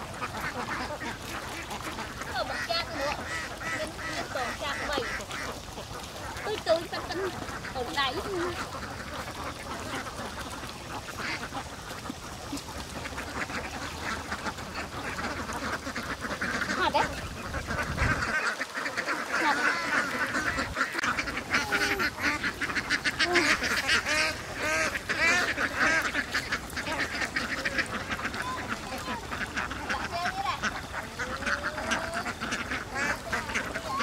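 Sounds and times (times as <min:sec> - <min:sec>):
ducks quacking: 0:00.0 - 0:34.0.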